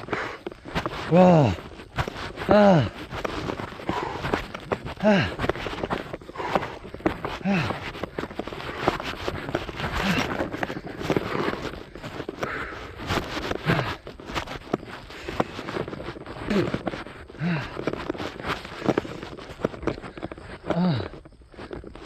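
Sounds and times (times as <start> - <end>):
runner exhaling: 0.0 - 22.0
running footsteps on trail: 0.0 - 22.0.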